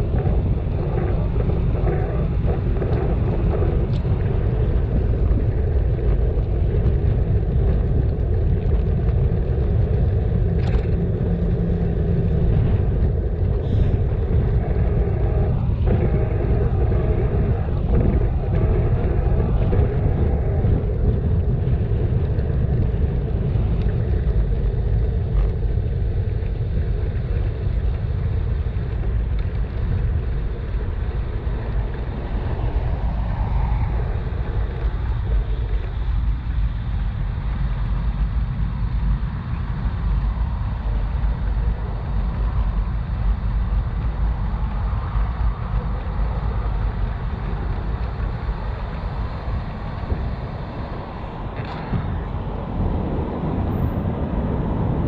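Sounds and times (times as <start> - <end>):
bicycle road noise: 0.0 - 55.0
wind on microphone: 0.0 - 55.0.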